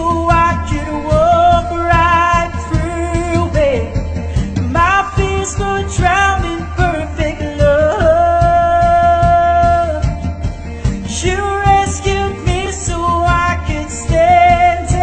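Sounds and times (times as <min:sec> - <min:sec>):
backing track with steady beat: 0:00.0 - 0:15.0
young man singing a ballad: 0:00.0 - 0:15.0.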